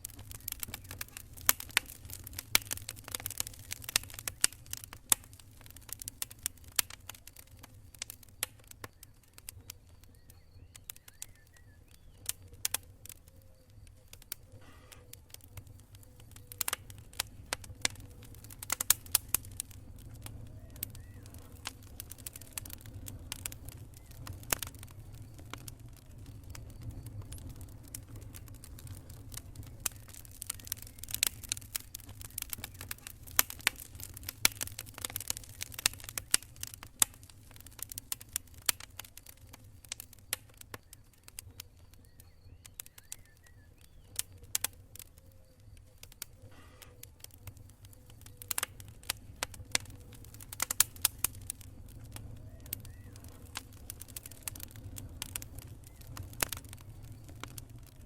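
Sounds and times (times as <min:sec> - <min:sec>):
campfire crackling and popping: 0:00.0 - 0:58.0
low fire rumble: 0:00.0 - 0:58.0.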